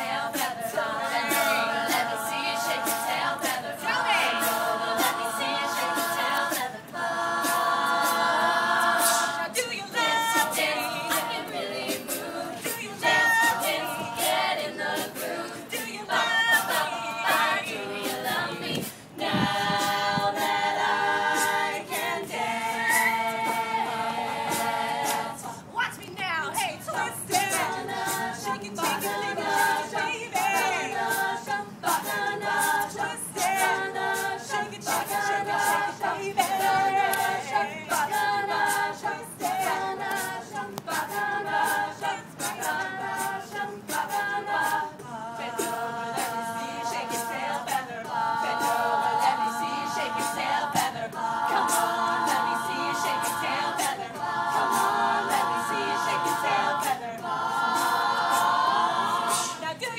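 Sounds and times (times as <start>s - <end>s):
steady percussive beat: 0.0s - 59.9s
women singing in close harmony: 0.0s - 59.9s.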